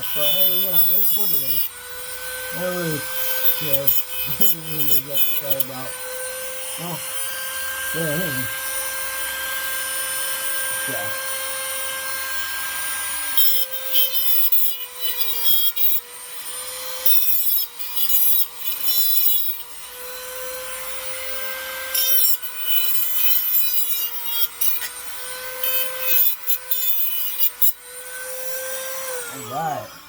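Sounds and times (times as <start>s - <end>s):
rotary tool grinding steel: 0.0s - 30.0s.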